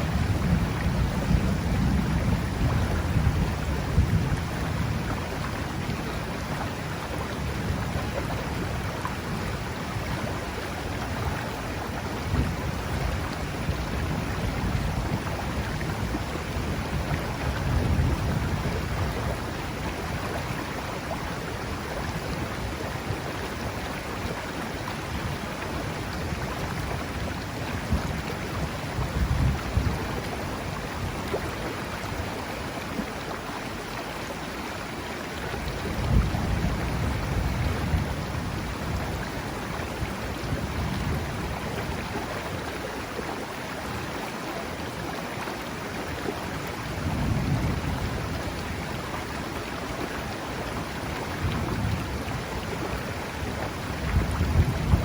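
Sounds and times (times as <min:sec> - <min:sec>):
rushing river: 0:00.0 - 0:55.0.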